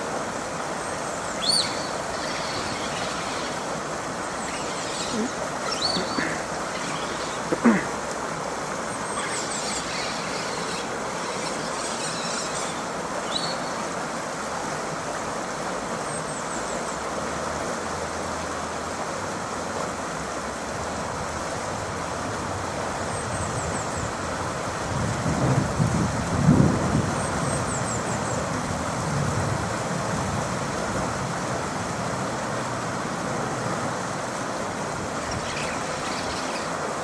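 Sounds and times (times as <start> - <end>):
flowing river water: 0.0 - 37.0.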